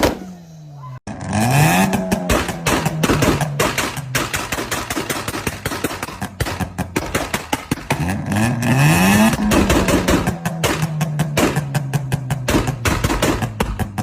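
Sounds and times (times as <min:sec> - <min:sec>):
sports car engine revving: 0:00.0 - 0:14.0
exhaust crackling pops: 0:01.8 - 0:14.0.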